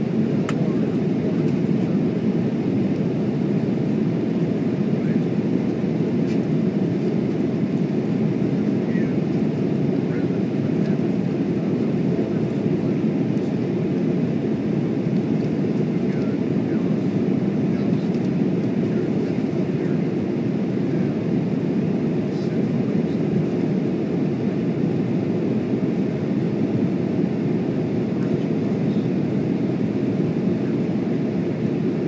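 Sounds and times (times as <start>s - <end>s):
jet airliner cabin drone: 0.0s - 32.0s.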